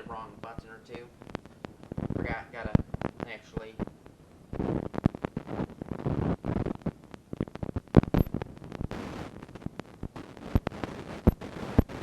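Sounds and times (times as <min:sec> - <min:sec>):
microphone crackling clicks: 0:00.9 - 0:12.0.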